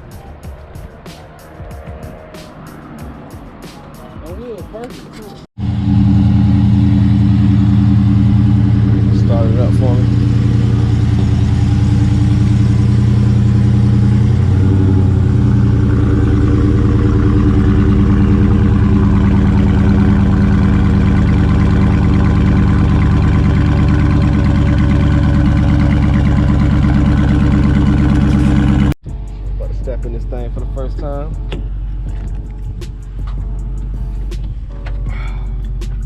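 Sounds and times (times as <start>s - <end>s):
car engine idling: 4.4s - 36.0s.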